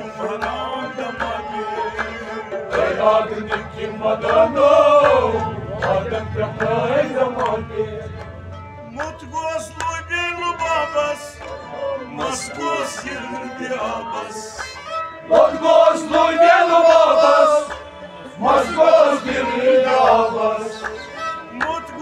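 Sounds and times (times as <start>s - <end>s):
harmonium: 0.0s - 22.0s
men singing: 0.0s - 22.0s.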